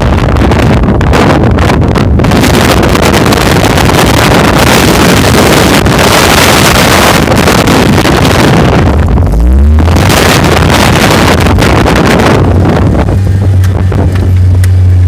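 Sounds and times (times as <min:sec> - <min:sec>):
off-road vehicle rumbling: 0:00.0 - 0:15.0
wind battering microphone: 0:00.0 - 0:15.0.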